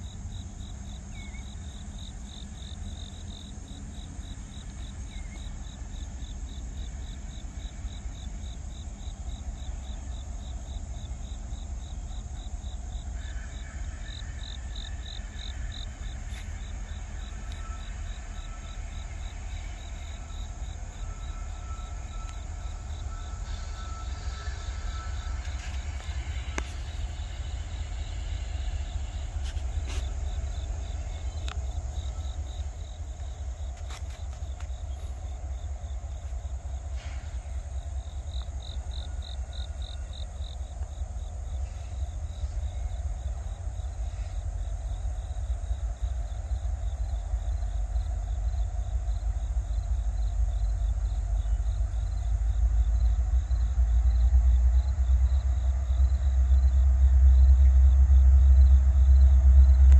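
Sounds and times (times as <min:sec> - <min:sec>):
distant freight train rumble: 0:00.0 - 0:59.9
insects chirping: 0:00.0 - 0:59.9.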